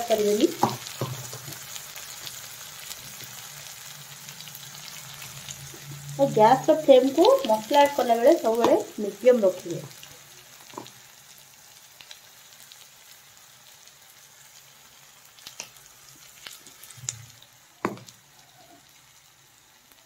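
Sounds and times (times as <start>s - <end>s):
masala sizzling in oil: 0.0s - 20.0s.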